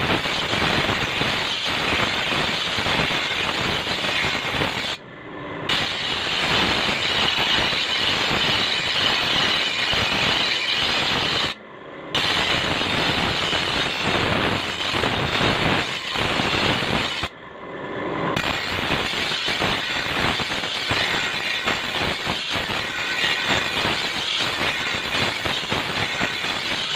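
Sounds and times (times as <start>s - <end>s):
steel blade grinding: 0.0s - 5.0s, 5.7s - 11.6s, 12.2s - 17.3s, 18.4s - 26.9s.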